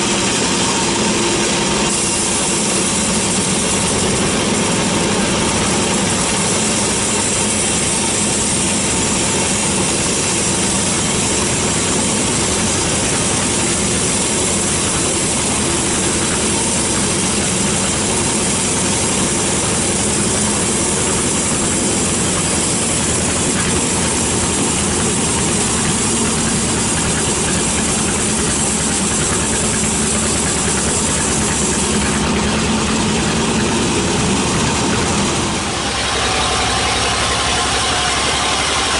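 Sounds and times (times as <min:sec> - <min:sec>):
band saw machine drone: 0:00.0 - 0:38.9
saw blade hissing in wood: 0:00.0 - 0:38.9.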